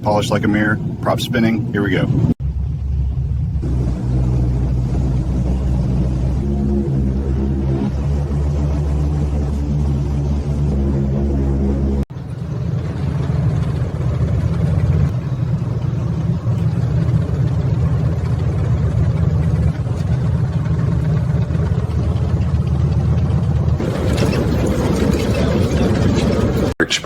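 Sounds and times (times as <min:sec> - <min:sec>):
piston engines droning: 0:00.0 - 0:27.0.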